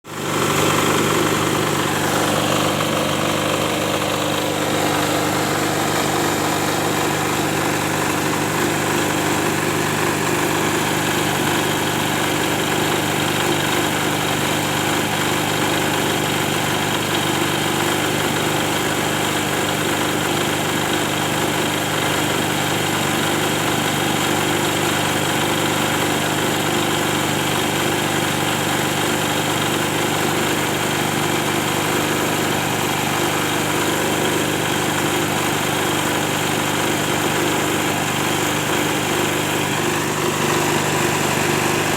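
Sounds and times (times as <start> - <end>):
generator engine running: 0.0 - 41.9.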